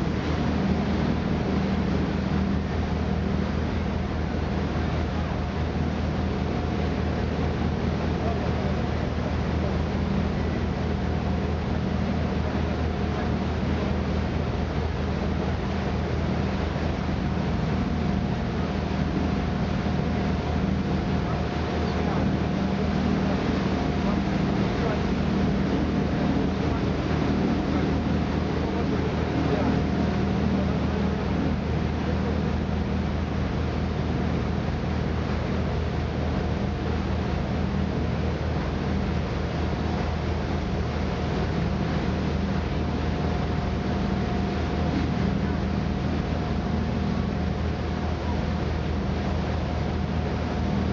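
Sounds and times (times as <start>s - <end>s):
boat engine running: 0.0s - 50.9s
faint steady whine: 0.0s - 50.9s
rushing wind and water: 0.0s - 50.9s.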